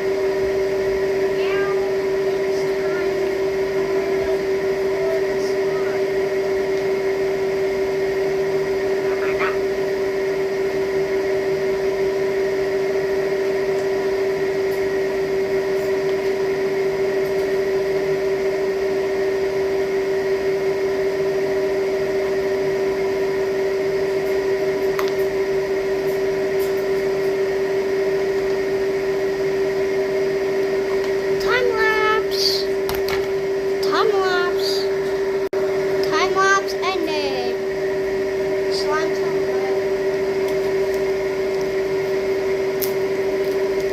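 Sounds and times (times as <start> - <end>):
steady machine hum: 0.0 - 43.9.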